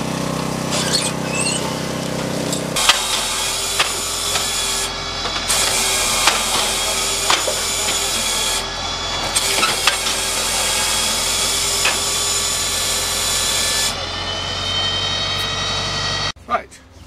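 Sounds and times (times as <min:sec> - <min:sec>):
chainsaw cutting through logs: 0:00.0 - 0:16.4
machine engine running: 0:00.0 - 0:16.4.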